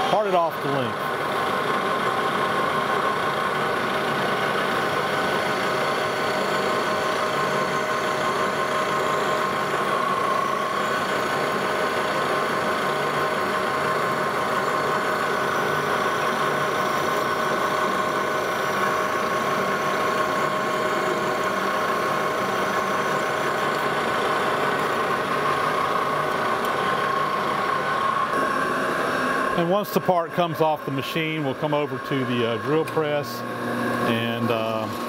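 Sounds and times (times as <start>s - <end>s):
lathe whining: 0.0s - 35.0s.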